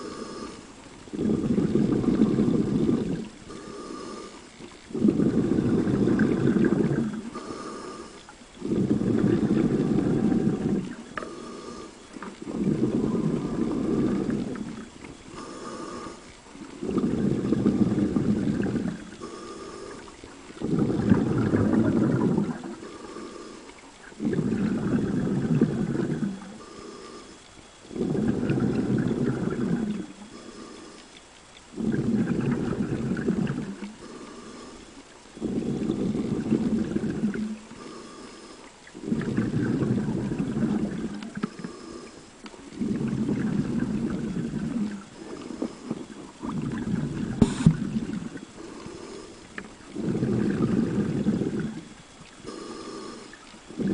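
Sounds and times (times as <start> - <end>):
diver inhaling through regulator: 0.0 - 53.9
exhaled bubbles rumbling: 0.0 - 53.9.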